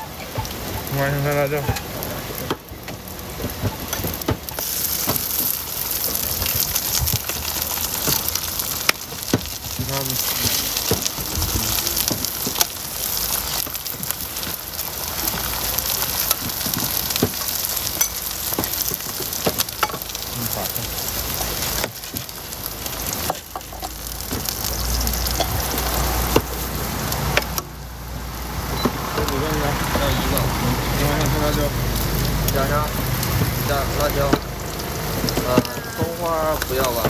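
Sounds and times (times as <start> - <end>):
food sizzling on griddle: 0.0 - 37.0.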